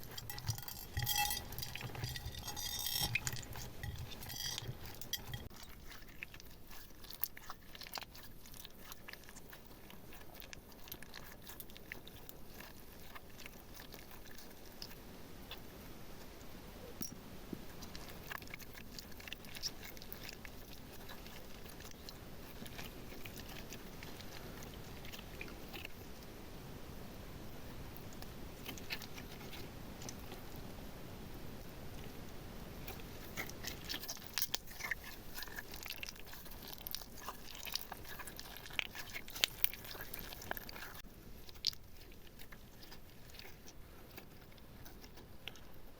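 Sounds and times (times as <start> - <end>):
slime squished and stirred: 0.0 - 45.9.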